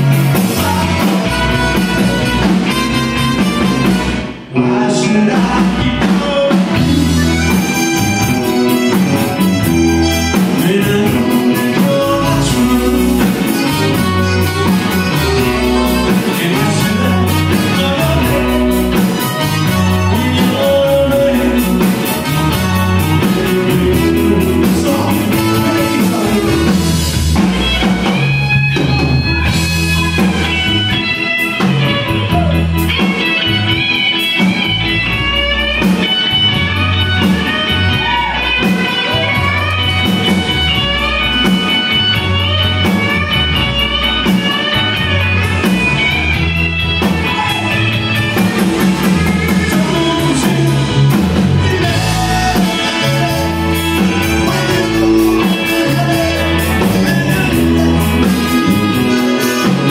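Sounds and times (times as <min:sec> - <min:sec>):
band playing instrumental: 0:00.0 - 0:59.9
electric guitar lead: 0:00.0 - 0:59.9.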